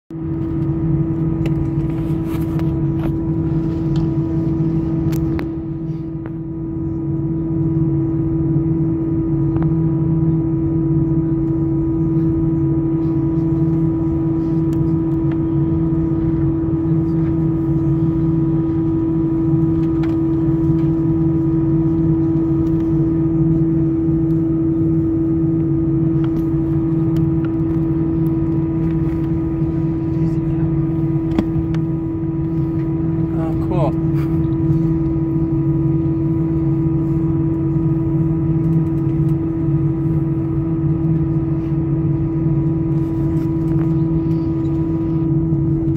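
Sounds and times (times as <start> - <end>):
airliner cabin drone: 0.1 - 45.9.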